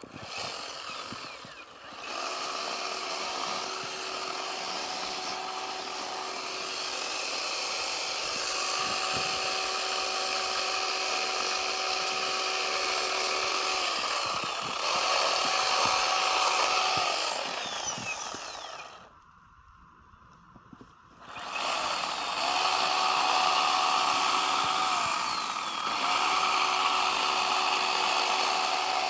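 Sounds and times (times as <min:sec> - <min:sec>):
chainsaw cutting snow: 0:00.0 - 0:19.2, 0:21.1 - 0:29.0.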